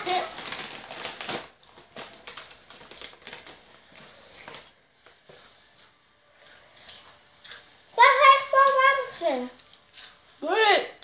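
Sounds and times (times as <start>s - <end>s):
fries being crunched: 0.0s - 10.4s
snack bag crinkling: 0.0s - 10.4s.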